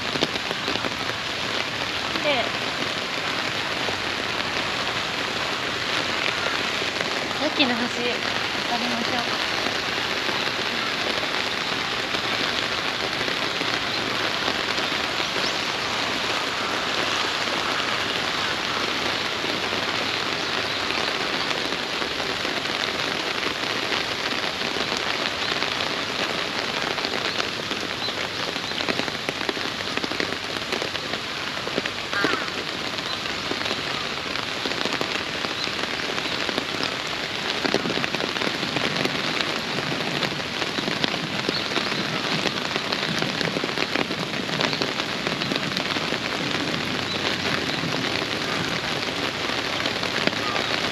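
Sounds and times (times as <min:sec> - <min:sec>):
heavy rain: 0:00.0 - 0:50.9
raindrops ticking on plastic umbrella: 0:00.0 - 0:50.9.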